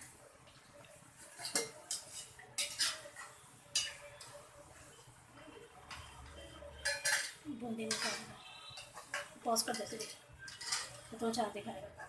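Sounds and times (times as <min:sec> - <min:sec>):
frying in oil: 0:00.0 - 0:12.0
metal utensil scraping a pan: 0:01.2 - 0:12.0.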